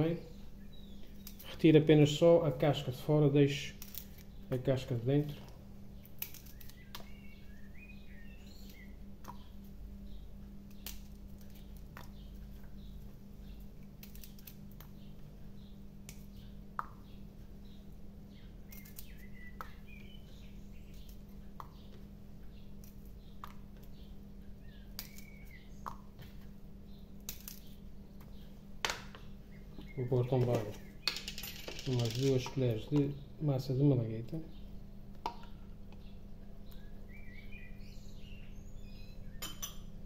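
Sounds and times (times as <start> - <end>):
bird chirping: 0.0 - 2.1, 4.0 - 26.0, 26.8 - 39.9
low steady hum: 0.0 - 40.0.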